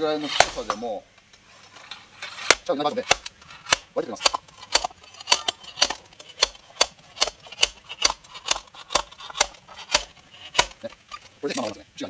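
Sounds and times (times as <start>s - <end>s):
metal weight clanking on blade: 1.8s - 11.7s.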